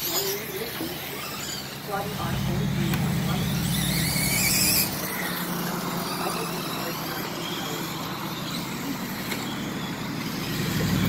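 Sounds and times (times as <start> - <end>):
electric motor whines: 0.0 - 11.0
steady background noise: 0.0 - 11.0.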